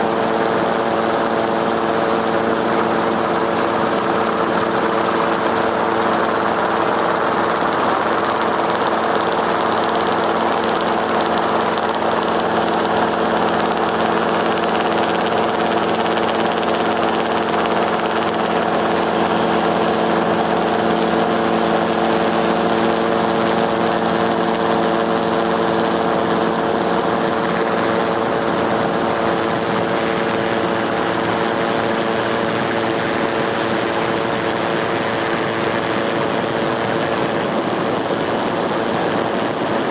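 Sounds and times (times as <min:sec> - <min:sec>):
steady engine drone: 0:00.0 - 0:39.9.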